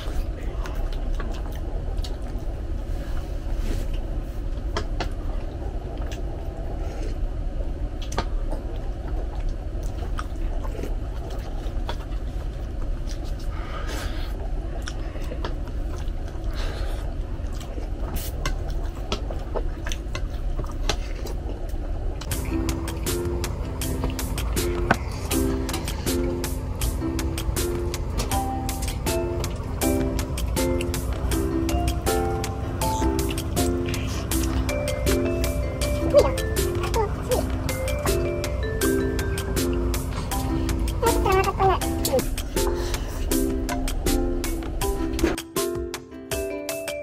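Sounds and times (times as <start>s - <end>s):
chewing and sipping: 0.0s - 7.3s, 7.9s - 45.5s
low rumble: 0.0s - 45.3s.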